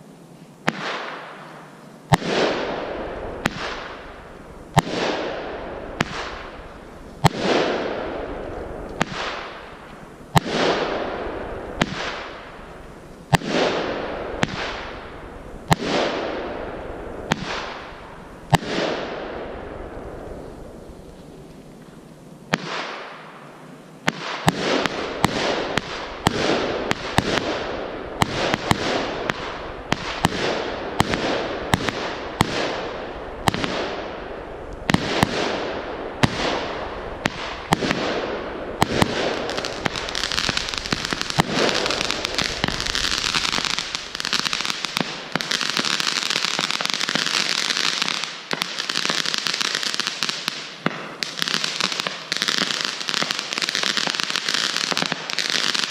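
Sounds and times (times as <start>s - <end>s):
firework crackle: 0.0s - 55.9s
firework bangs: 0.6s - 21.0s, 22.5s - 55.9s.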